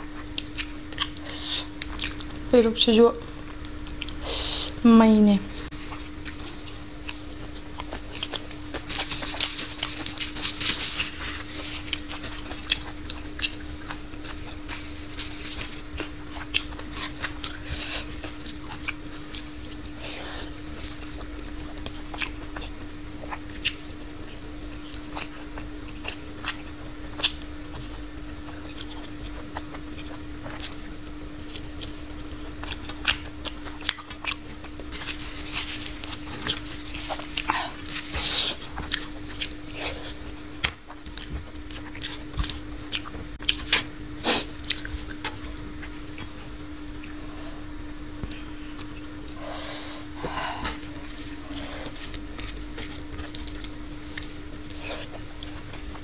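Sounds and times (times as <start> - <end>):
steady low hum: 0.0 - 56.0
chewing and mouth smacks: 0.2 - 2.4, 3.5 - 4.2, 5.9 - 39.9, 40.6 - 43.9, 44.5 - 47.2, 50.6 - 56.0.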